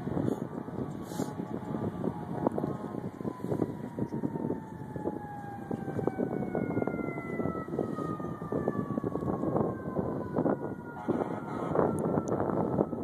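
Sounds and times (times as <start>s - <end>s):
distant siren winding down: 0.0s - 13.0s
wind buffeting microphone: 0.0s - 13.0s.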